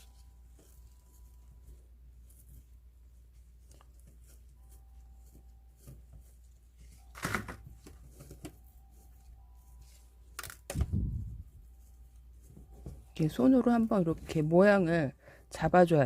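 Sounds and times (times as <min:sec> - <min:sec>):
hands rustling potting soil: 0:00.0 - 0:15.1.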